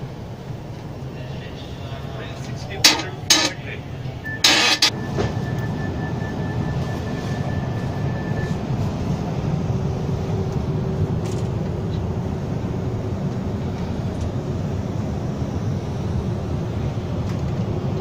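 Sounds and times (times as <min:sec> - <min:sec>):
train interior rumble and hiss: 0:00.0 - 0:18.0.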